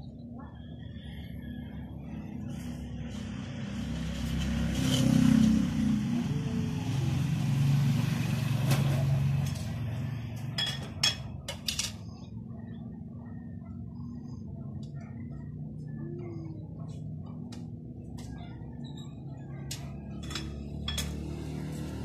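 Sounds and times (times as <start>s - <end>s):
motor vehicle passing: 0.9s - 10.6s, 12.0s - 22.0s.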